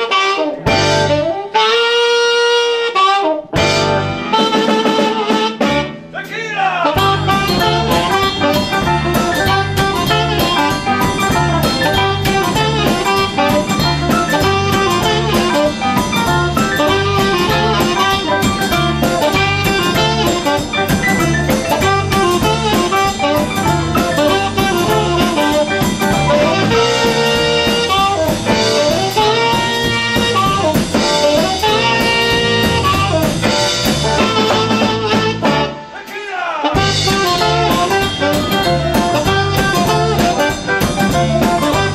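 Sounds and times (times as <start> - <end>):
upright bass: 0.0 - 1.4, 3.6 - 35.8, 36.7 - 41.9
electric guitar: 0.0 - 6.0, 7.0 - 35.9, 36.8 - 41.9
drum kit swing beat: 0.0 - 41.9
saxophone lead: 0.0 - 41.9.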